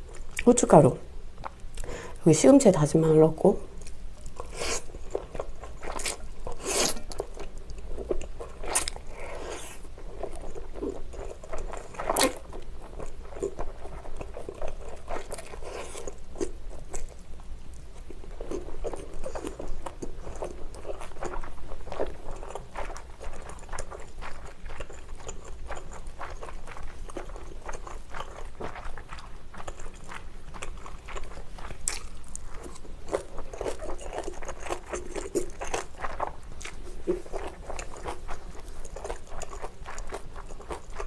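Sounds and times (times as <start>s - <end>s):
person slurping and chewing noodles: 4.2s - 17.2s, 18.2s - 41.0s.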